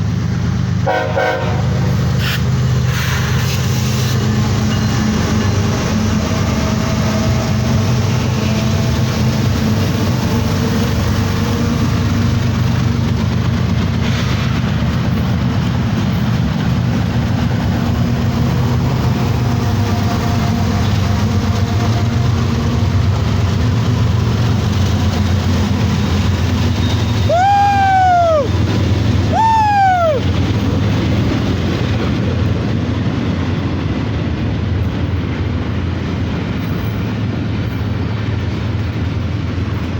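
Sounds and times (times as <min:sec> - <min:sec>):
diesel locomotive drone: 0:00.0 - 0:39.9
train wheels rolling on rail: 0:00.0 - 0:39.9.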